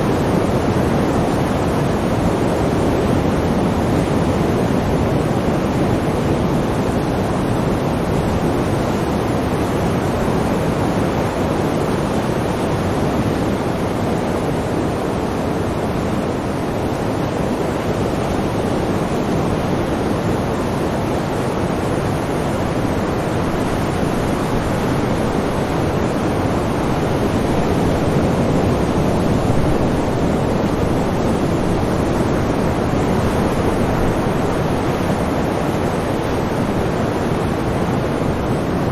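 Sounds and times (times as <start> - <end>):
sea waves surging: 0.0 - 38.9.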